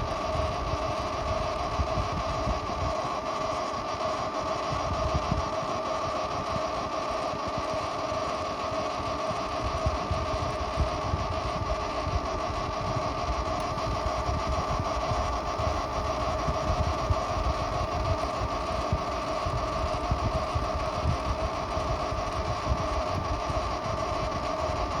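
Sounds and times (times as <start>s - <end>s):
ice maker buzzing hum: 0.0s - 25.0s.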